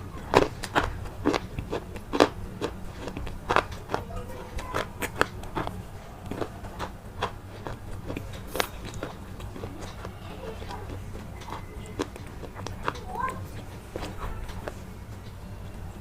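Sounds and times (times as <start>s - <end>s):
low steady hum: 0.0s - 16.0s
brittle crunching and snapping: 0.2s - 13.0s.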